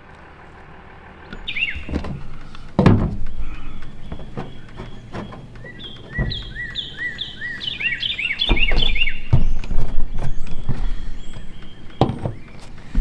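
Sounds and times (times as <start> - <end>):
songbird singing: 0.0 - 13.0
handling noise knocks and rumbling: 1.3 - 13.0.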